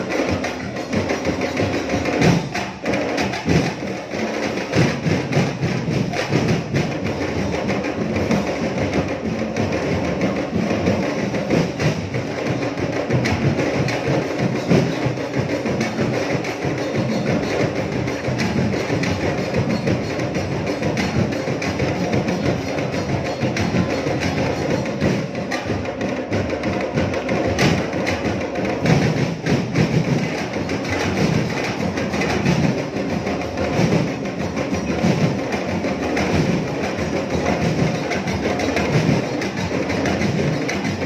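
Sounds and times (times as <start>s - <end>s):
drum and percussion music: 0.0s - 41.0s.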